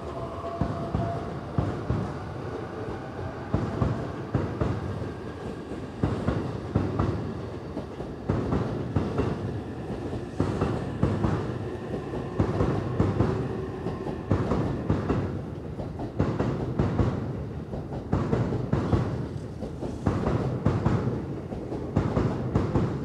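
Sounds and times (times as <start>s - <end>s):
train rolling past: 0.0s - 23.0s.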